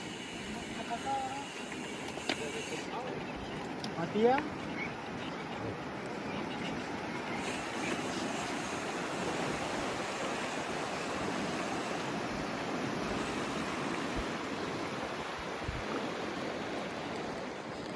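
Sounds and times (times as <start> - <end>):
tyres rolling on dirt trail: 0.0 - 17.9
wind over microphone: 0.0 - 17.9.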